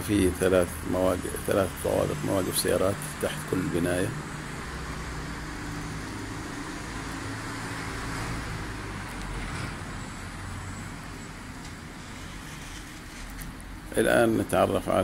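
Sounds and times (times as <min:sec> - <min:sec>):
distant road traffic rush: 0:00.0 - 0:15.0.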